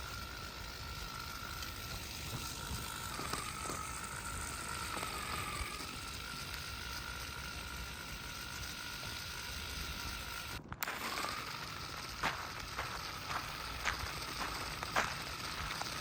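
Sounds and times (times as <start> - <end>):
light gear rattle: 0.0 - 16.0
small electric motors whining: 0.0 - 16.0.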